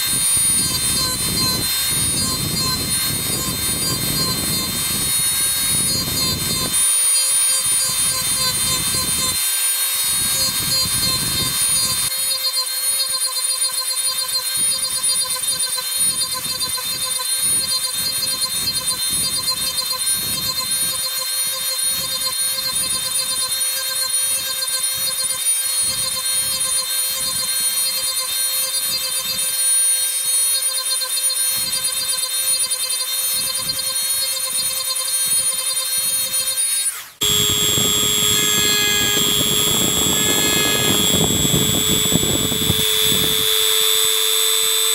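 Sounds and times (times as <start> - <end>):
rotary tool whining: 0.0 - 44.9.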